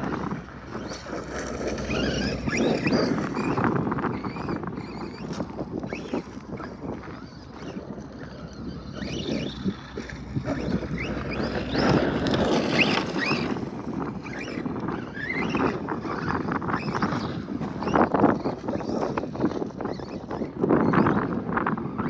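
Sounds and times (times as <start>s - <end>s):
electric motor whining: 0.0s - 22.0s
tyres and wind rushing: 0.0s - 22.0s.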